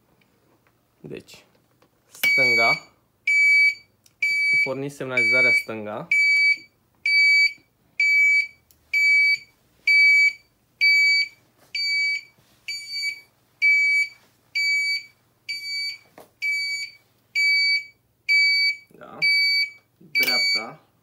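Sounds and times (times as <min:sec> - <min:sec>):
turn signal relay beeping: 0:02.2 - 0:20.8.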